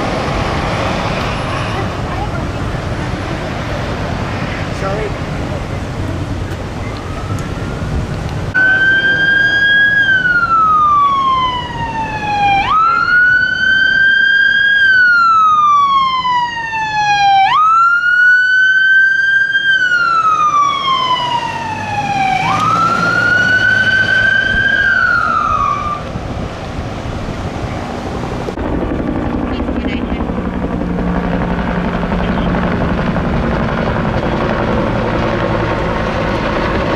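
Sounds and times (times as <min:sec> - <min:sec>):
fire engine siren wailing: 0:05.2 - 0:28.9, 0:29.5 - 0:36.9.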